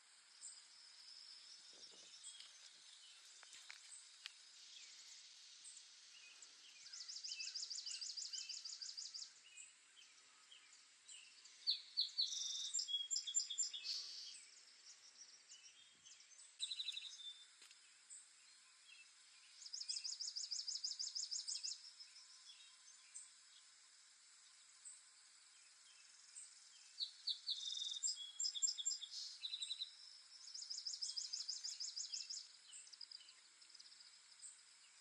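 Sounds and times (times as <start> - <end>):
faint high hiss: 0.0 - 35.0
varied birdsong: 0.0 - 35.0.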